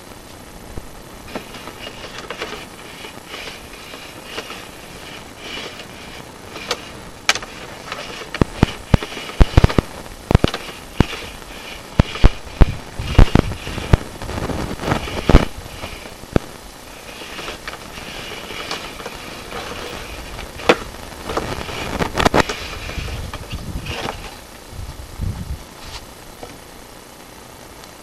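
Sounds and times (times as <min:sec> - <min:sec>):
cable scraping in drain pipe: 0:01.3 - 0:24.4.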